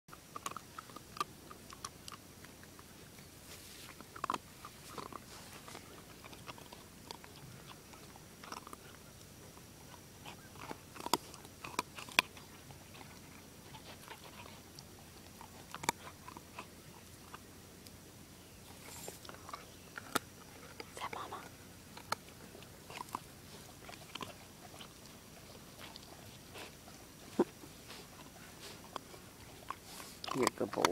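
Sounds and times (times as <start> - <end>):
puppy crunching hard treats: 0.1 - 18.1, 18.7 - 30.9.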